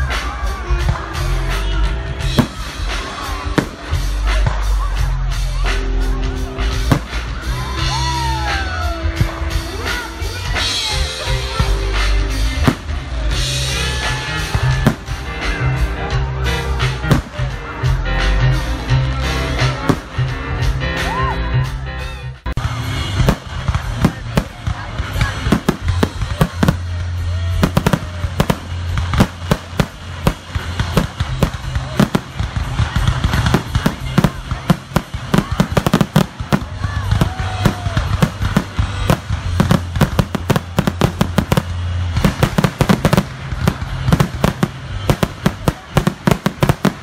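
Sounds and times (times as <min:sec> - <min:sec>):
fireworks bursting bangs and crackles: 0:00.0 - 0:05.6, 0:06.5 - 0:15.6, 0:16.8 - 0:17.6, 0:19.7 - 0:20.2, 0:22.6 - 0:47.0
music playing: 0:00.0 - 0:47.0.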